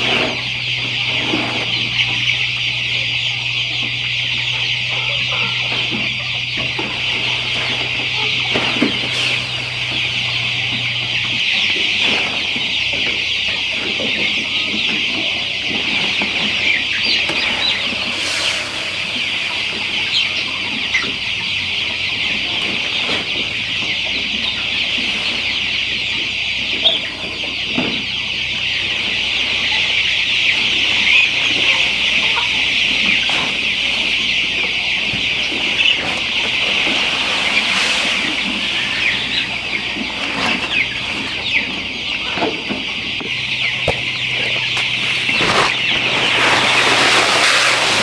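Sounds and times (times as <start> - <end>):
flock of chickens clucking: 0.0 - 48.0.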